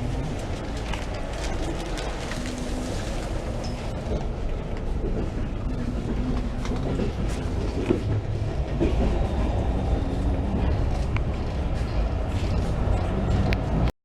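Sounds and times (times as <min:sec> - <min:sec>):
train rumbling: 0:00.0 - 0:13.9
wheels clicking over rails: 0:00.0 - 0:13.9.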